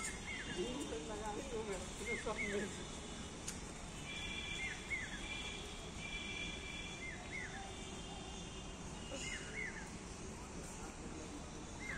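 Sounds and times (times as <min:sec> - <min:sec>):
outdoor background noise: 0:00.0 - 0:11.9.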